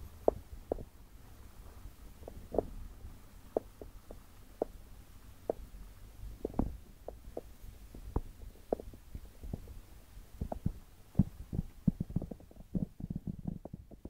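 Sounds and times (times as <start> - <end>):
aquarium water bubbling: 1.9 - 14.0.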